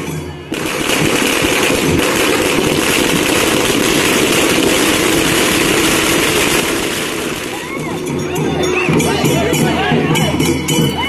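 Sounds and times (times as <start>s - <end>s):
firecrackers banging in a chain: 0.0s - 11.0s.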